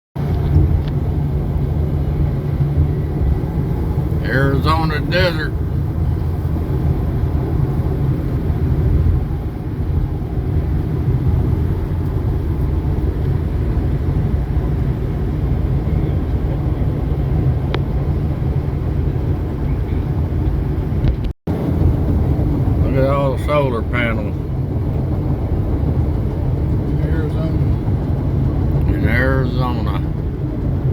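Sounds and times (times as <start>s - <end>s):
road and engine rumble in vehicle: 0.2s - 30.9s.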